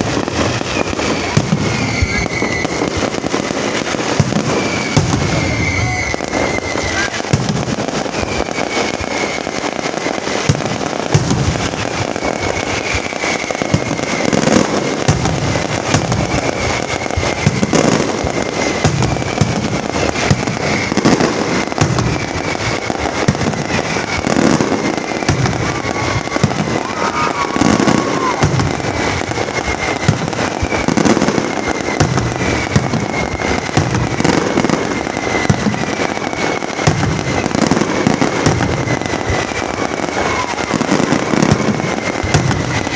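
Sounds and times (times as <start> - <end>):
deep booms of bursting shells: 0.0 - 42.9
fireworks crackling and popping: 0.0 - 42.9.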